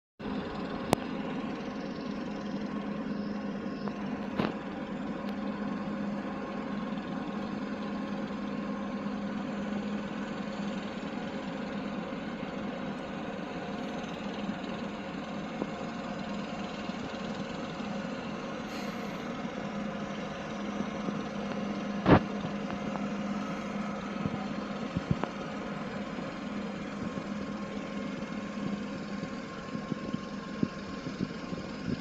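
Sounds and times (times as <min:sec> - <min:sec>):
boat engine droning: 0:00.2 - 0:32.0.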